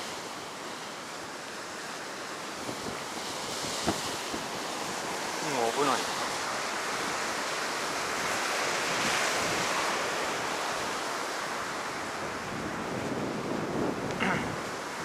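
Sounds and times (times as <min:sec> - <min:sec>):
ocean surf pounding the beach: 0:00.0 - 0:15.0
wind buffeting the microphone: 0:02.4 - 0:15.0.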